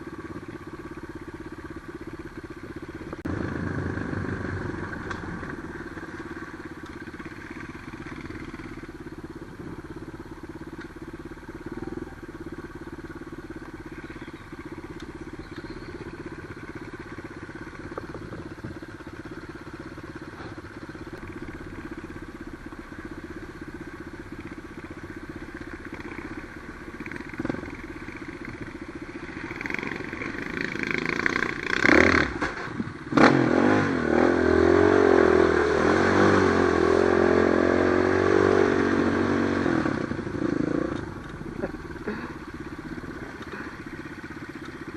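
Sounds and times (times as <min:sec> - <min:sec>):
engine clatter: 0:00.0 - 0:33.8, 0:38.7 - 0:44.9
motorcycle engine revving: 0:00.0 - 0:44.9.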